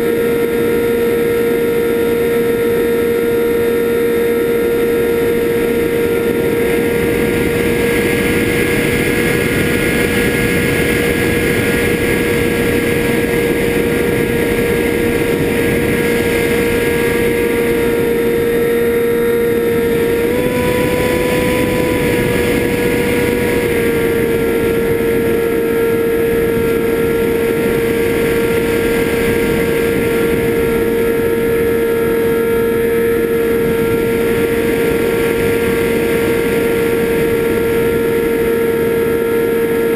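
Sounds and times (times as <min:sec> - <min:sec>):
drone motors whining: 0:00.0 - 0:39.9
steady noisy rush: 0:00.0 - 0:39.9.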